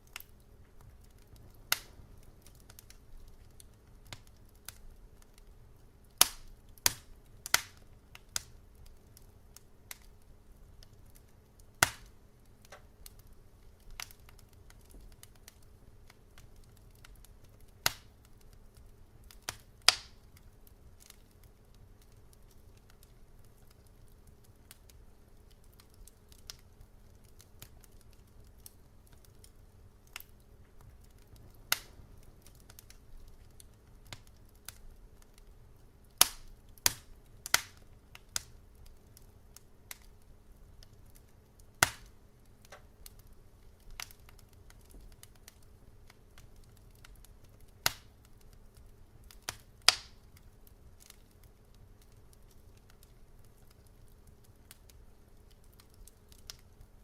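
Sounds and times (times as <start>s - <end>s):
faint low hum: 0.0s - 57.0s
wood fire crackling: 0.0s - 57.0s.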